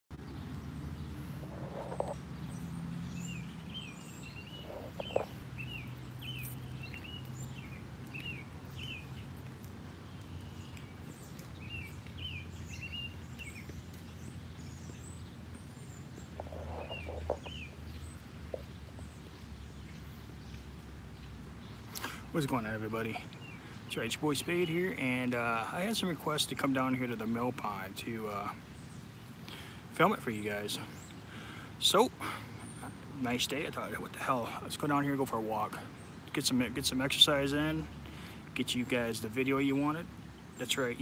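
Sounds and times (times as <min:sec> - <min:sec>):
small birds chirping: 0:00.1 - 0:41.0.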